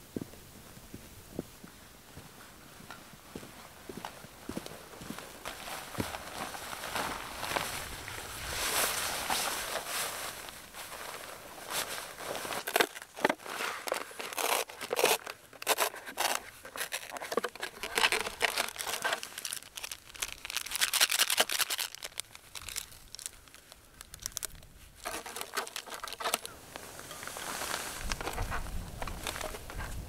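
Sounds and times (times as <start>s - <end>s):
packaging crinkling and tearing: 5.5s - 30.0s.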